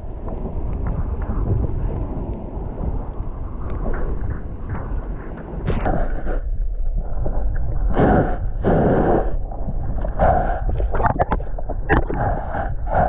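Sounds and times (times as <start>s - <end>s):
steady low rumble: 0.0s - 13.0s
waves sloshing and splashing: 0.0s - 13.0s.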